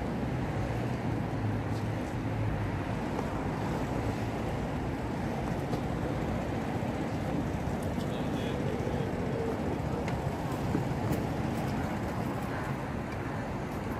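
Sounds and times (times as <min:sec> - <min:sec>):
road traffic rumble: 0:00.0 - 0:13.9.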